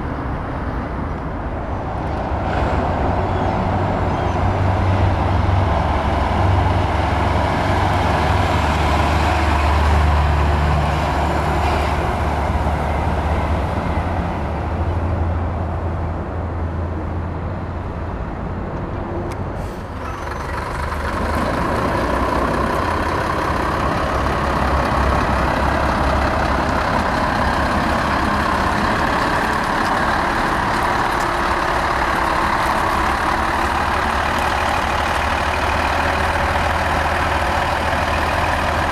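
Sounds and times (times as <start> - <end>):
diesel truck engines rumbling: 0.0 - 38.9.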